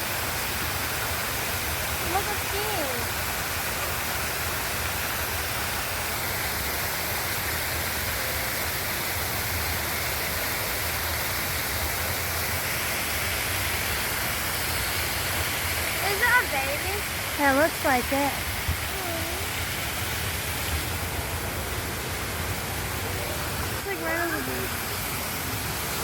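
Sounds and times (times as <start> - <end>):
rush of running water: 0.0 - 26.0.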